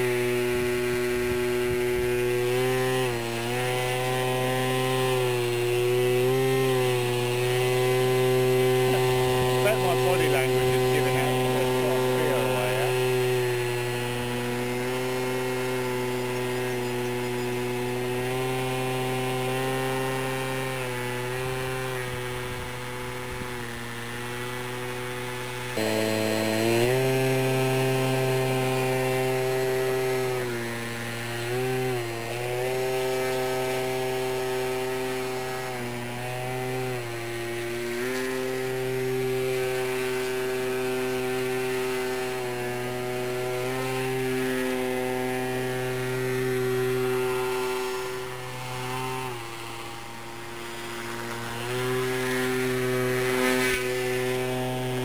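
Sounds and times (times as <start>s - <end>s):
model plane motor buzzing whine: 0.0s - 55.0s.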